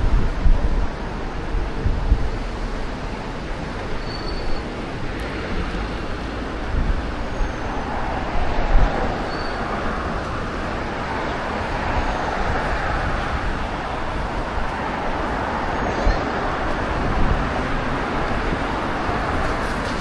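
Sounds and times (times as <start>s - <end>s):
road traffic going by: 0.0s - 20.0s
wind buffeting microphone: 0.0s - 20.0s.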